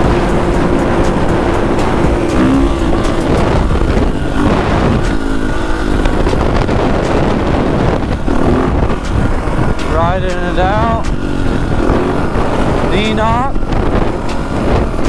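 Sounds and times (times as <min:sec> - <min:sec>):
dirt bike engine revving: 0:00.0 - 0:15.0
wind noise: 0:00.0 - 0:15.0.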